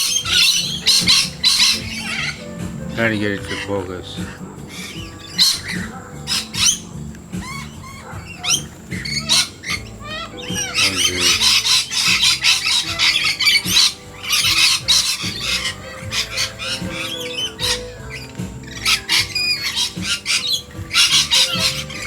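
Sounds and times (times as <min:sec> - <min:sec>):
parrots and birds squawking: 0:00.0 - 0:22.0.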